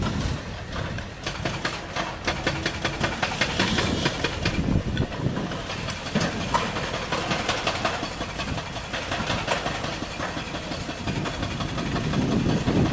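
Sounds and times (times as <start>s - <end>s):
diesel machinery rumbling: 0.0s - 12.9s
metal clanks and knocks: 0.0s - 12.9s.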